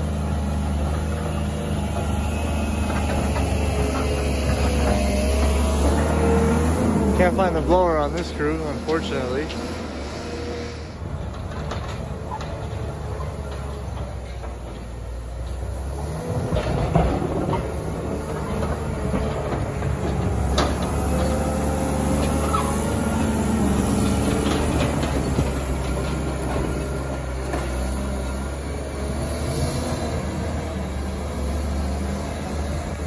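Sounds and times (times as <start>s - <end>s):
diesel engine running under load: 0.0s - 33.0s.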